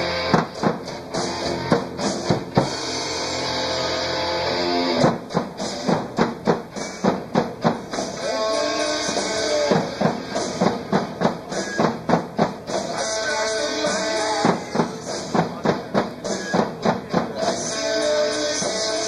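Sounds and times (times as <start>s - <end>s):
held guitar chords: 0.0s - 19.0s
muffled live drum kit: 0.0s - 19.0s
rock backing track: 0.0s - 19.0s.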